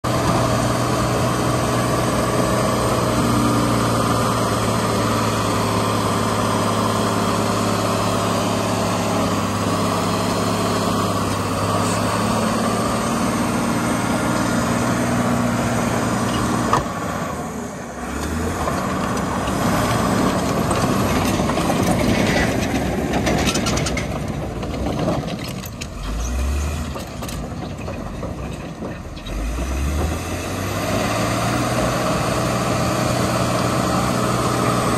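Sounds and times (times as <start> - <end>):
diesel dozer engine under load: 0.0 - 34.9.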